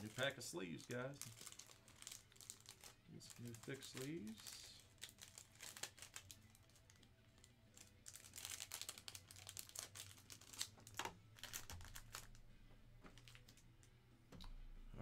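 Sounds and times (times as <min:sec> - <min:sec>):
plastic packaging crinkling: 0:00.0 - 0:12.4, 0:13.1 - 0:13.6.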